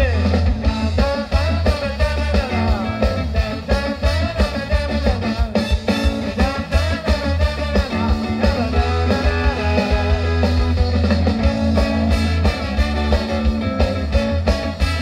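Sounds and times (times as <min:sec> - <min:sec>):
live ska band playing: 0:00.0 - 0:15.0.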